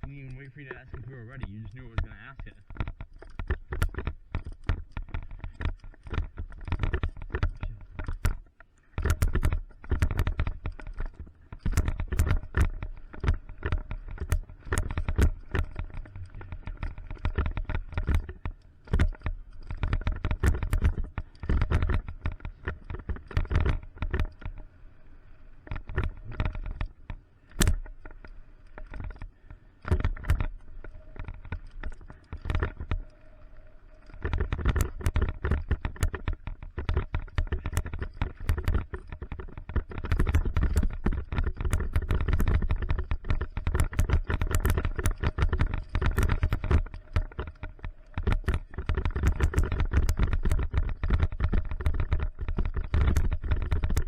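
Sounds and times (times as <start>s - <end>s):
bike knocks and rattles: 0.0s - 24.7s, 25.6s - 33.2s, 34.0s - 54.0s.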